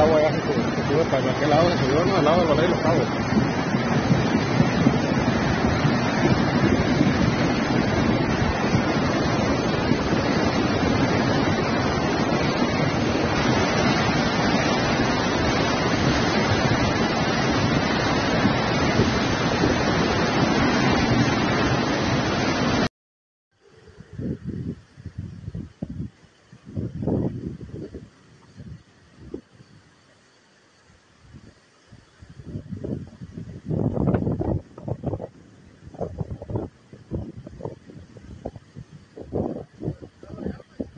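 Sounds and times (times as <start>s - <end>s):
floodwater rushing: 0.0s - 22.9s, 26.0s - 40.9s
wind noise on microphone: 0.0s - 22.9s, 23.6s - 30.3s, 30.9s - 40.9s.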